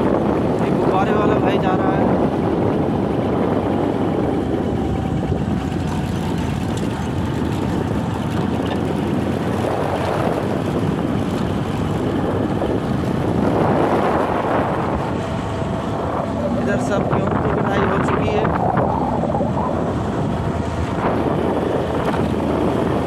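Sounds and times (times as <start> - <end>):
vehicle running noise: 0.0 - 23.0
wind rumble on microphone: 0.0 - 23.0.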